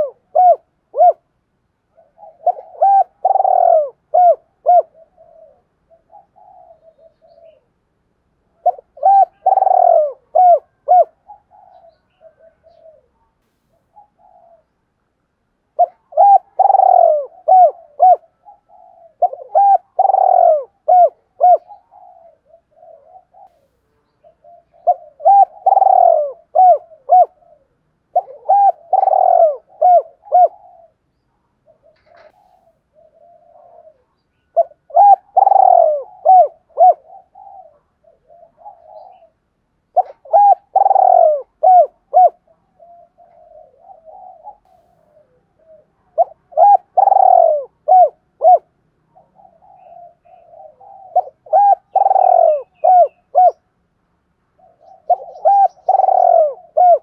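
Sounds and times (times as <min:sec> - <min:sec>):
dove cooing: 0:00.0 - 0:14.8, 0:15.7 - 0:53.7, 0:54.5 - 0:57.0.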